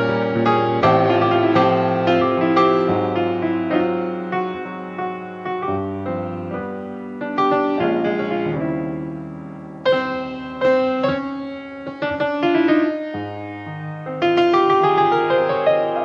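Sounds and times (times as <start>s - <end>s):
solo jazz piano: 0.0s - 16.0s.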